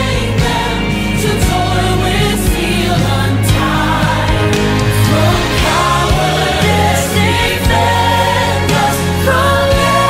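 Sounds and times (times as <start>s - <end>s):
hymn singing with instrumental accompaniment: 0.0s - 10.0s.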